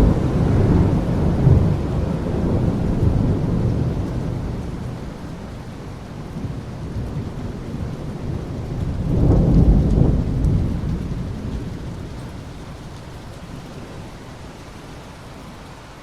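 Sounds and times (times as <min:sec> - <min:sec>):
thunder rumbling: 0:00.0 - 0:14.1
steady rain: 0:00.0 - 0:16.0.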